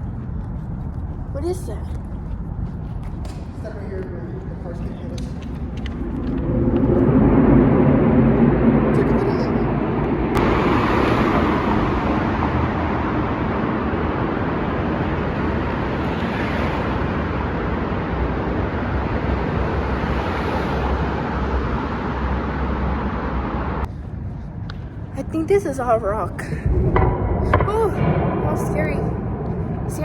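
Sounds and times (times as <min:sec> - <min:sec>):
cars passing by: 0:00.0 - 0:24.3.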